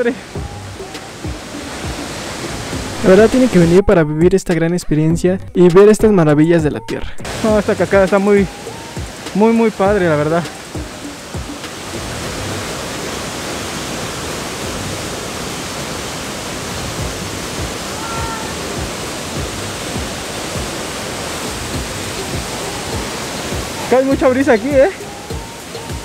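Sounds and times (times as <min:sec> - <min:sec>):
waterfall rushing: 0:00.0 - 0:04.0, 0:07.0 - 0:26.0.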